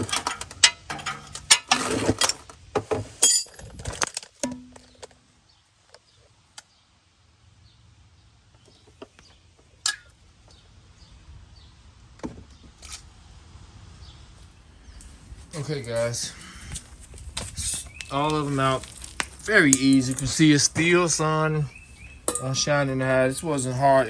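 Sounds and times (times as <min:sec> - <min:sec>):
low steady background hum: 0:00.0 - 0:24.0.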